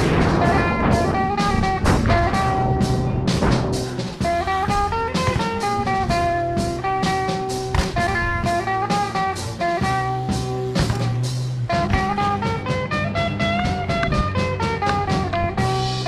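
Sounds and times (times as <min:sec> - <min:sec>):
guitar-led music with bass and drums: 0:00.0 - 0:16.0.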